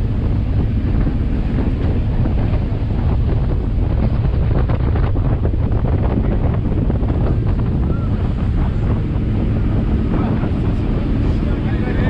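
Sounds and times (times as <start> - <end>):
ferry engine drone: 0.0 - 12.0
wind buffeting microphone: 0.0 - 12.0.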